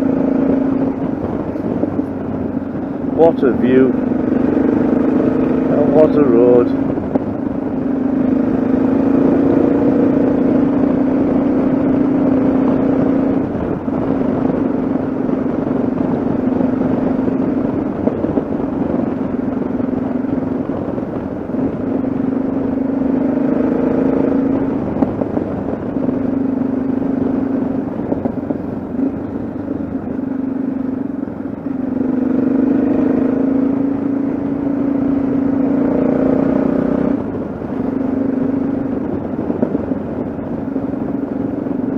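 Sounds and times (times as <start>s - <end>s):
motorcycle engine cruising: 0.0s - 41.9s
wind and road noise: 0.0s - 41.9s.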